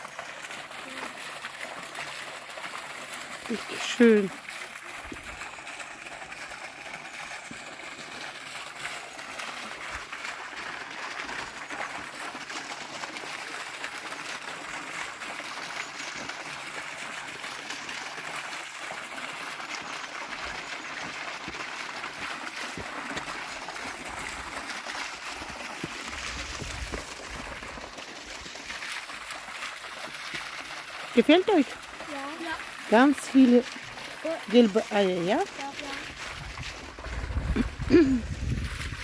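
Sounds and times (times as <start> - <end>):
fountain water splashing: 0.0 - 39.0.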